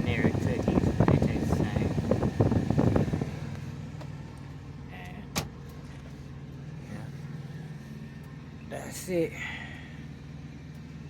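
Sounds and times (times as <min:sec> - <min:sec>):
low hum in truck cab: 0:00.0 - 0:11.0.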